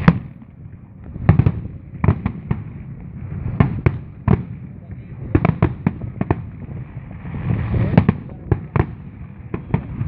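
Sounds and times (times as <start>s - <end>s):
fireworks bangs and cracks: 0.0s - 10.0s
rushing crackling fireworks: 0.0s - 10.0s.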